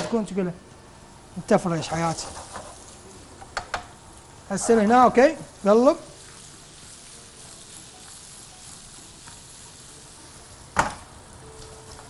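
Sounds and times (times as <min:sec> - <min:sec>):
food sizzling in frying pan: 0:00.8 - 0:12.0.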